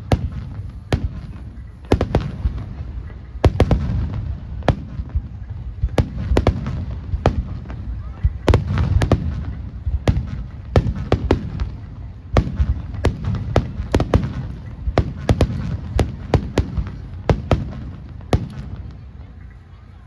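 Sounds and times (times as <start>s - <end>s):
fireworks sharp bangs: 0.0s - 19.1s
rumble of echoing explosions: 0.0s - 20.0s.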